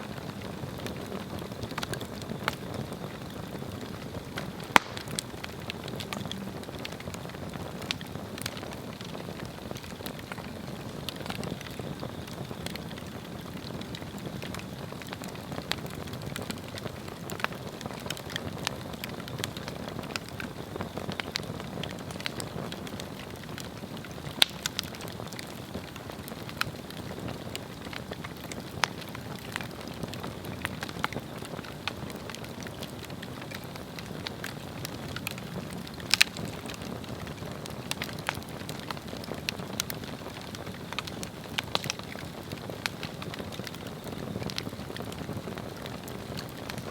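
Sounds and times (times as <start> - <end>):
fire crackling: 0.0 - 46.9
log fire burning: 0.0 - 46.9
sharp fire pops: 0.0 - 46.9.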